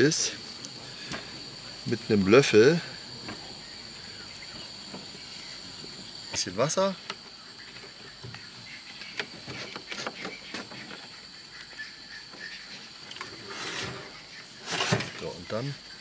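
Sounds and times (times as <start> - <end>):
insect chirring: 0.0 - 16.0
rustling hiss: 0.0 - 16.0.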